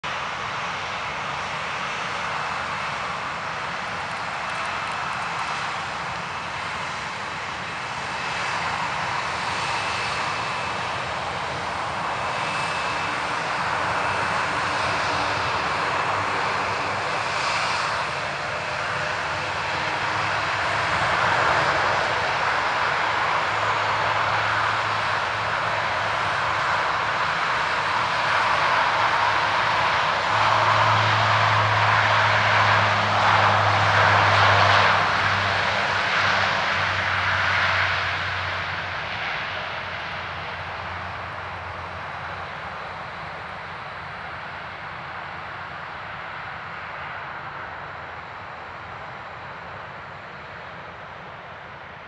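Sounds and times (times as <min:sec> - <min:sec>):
high turbine whine: 0:00.0 - 0:52.0
turboprop engine drone: 0:00.0 - 0:52.0.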